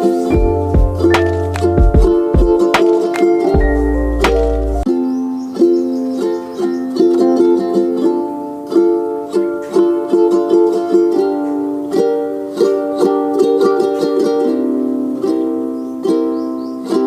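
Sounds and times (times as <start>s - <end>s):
plucked ukulele melody: 0.0s - 17.0s.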